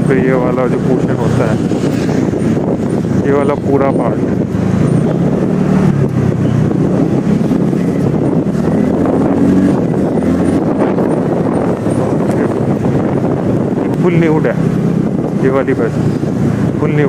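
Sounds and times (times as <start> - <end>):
scooter engine running: 0.0 - 17.0
wind rushing over microphone: 0.0 - 17.0.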